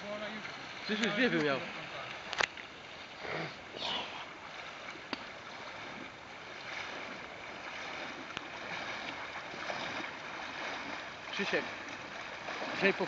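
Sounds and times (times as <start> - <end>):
river current rushing: 0.0 - 13.0
water splashing around legs: 0.8 - 13.0.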